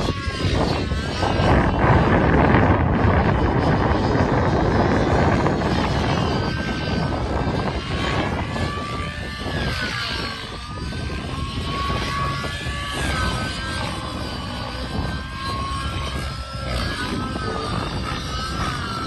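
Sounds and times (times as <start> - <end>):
rc helicopter engine whine: 0.0 - 19.0.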